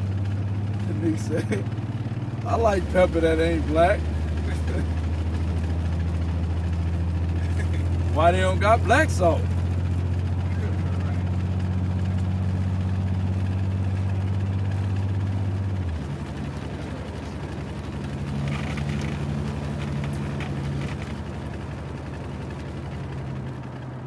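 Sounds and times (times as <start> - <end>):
car engine and road drone: 0.0 - 24.0.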